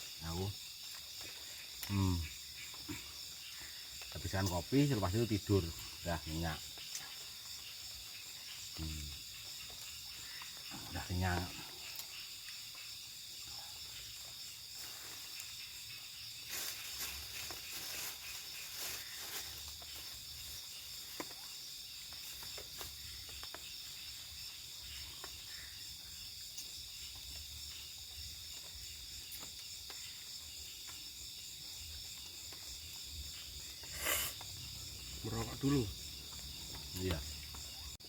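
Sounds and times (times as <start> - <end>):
crickets and insects trilling: 0.0 - 38.0.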